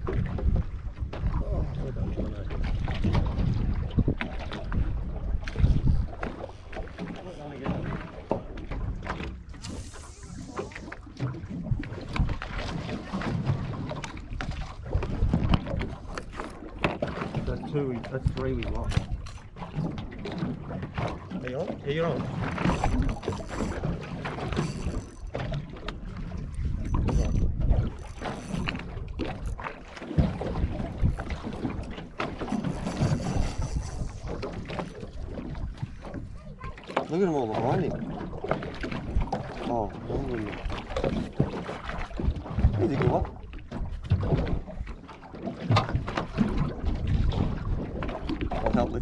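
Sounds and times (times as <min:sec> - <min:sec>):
wind buffeting microphone: 0:00.0 - 0:44.9, 0:45.7 - 0:49.0
water slapping against boat hull: 0:00.0 - 0:49.0.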